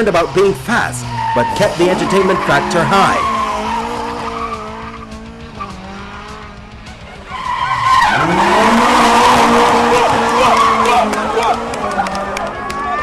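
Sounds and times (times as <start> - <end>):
race car engine revving: 0.0 - 13.0
tyres skidding: 0.0 - 13.0.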